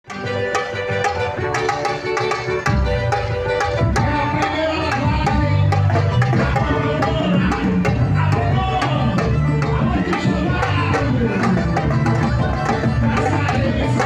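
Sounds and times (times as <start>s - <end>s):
hand drums: 0.0s - 14.0s
live band music: 0.0s - 14.0s
low bass: 2.7s - 14.0s.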